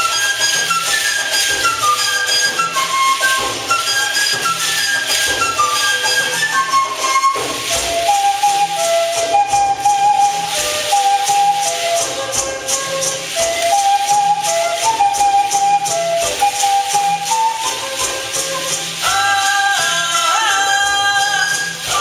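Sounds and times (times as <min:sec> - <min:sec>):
high flute melody: 0:00.0 - 0:22.0
shaken rattles: 0:00.0 - 0:22.0
steady percussion: 0:00.0 - 0:22.0.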